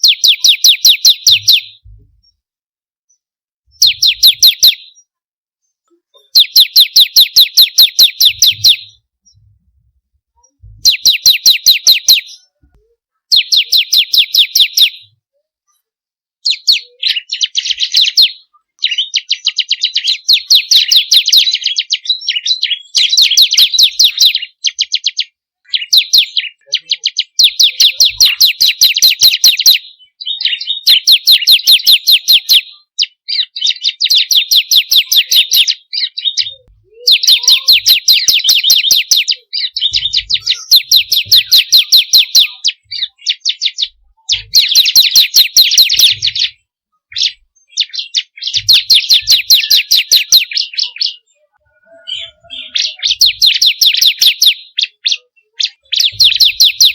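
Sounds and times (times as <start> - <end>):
bird singing sharp repeated notes: 0.0 - 2.4, 3.1 - 5.1, 6.1 - 9.6, 10.4 - 12.7, 13.3 - 15.2, 16.4 - 56.9.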